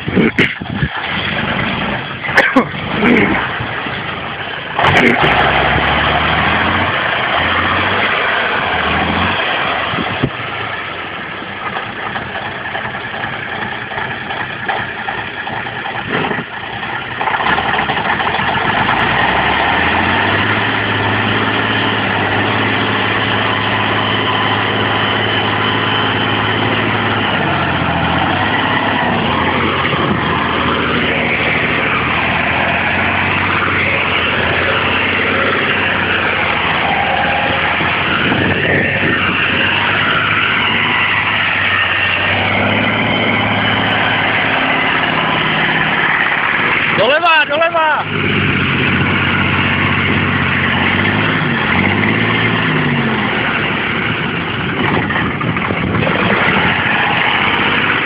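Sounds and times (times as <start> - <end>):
truck diesel engine under load: 0.0 - 58.0.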